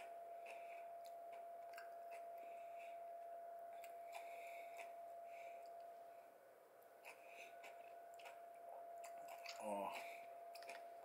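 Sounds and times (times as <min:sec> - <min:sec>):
faint chewing: 0:00.0 - 0:11.0
faint steady hum: 0:00.0 - 0:11.0.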